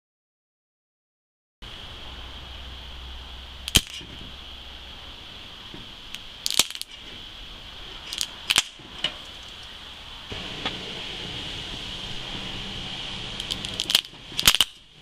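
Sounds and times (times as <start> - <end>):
sharp electrical cracks: 1.7 - 15.0.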